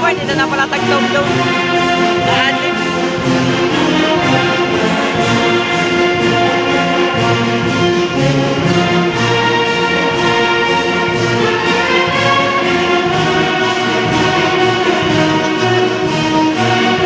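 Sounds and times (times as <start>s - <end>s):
brass band playing a march: 0.0s - 17.0s.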